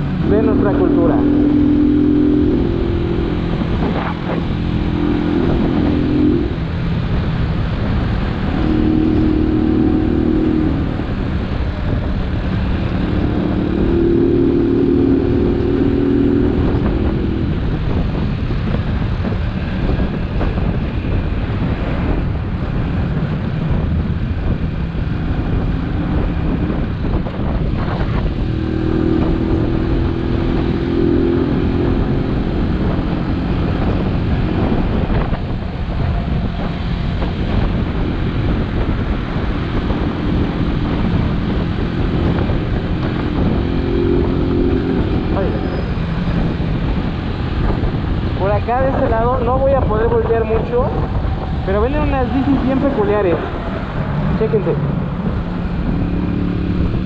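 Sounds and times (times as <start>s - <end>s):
motorcycle engine revving: 0.0s - 57.0s
wind and road rumble: 0.0s - 57.0s.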